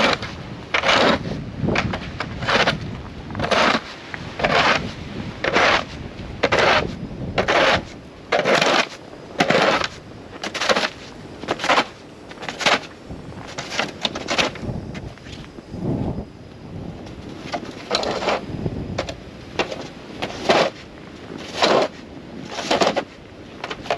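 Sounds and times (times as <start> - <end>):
snow crunching: 0.0 - 15.5, 17.3 - 18.5, 19.5 - 23.9.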